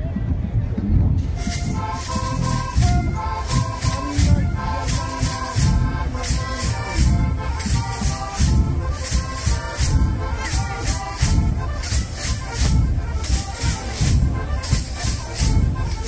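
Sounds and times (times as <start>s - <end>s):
simple melody line: 1.3s - 16.0s.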